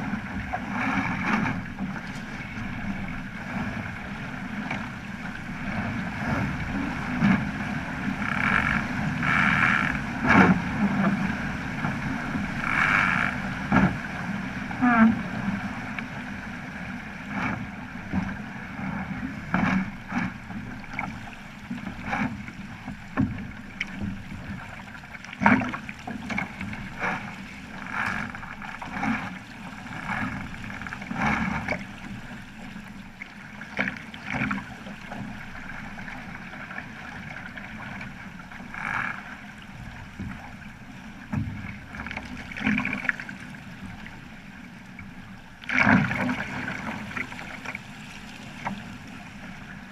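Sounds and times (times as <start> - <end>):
water rushing along a hull: 0.0 - 49.9
water slapping and splashing: 0.0 - 49.9.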